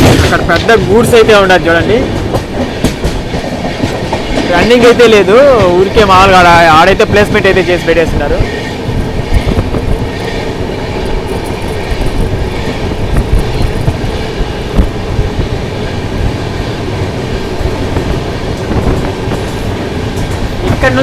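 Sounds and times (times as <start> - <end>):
clacks over rail joints: 0.0 - 15.5, 16.1 - 21.0
train wheels rumbling on rail: 0.0 - 21.0.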